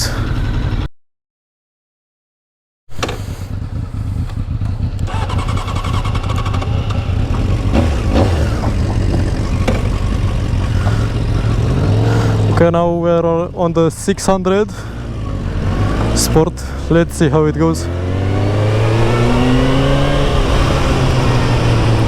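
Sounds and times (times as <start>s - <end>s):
motorcycle engine running: 0.0s - 0.9s, 3.0s - 22.0s.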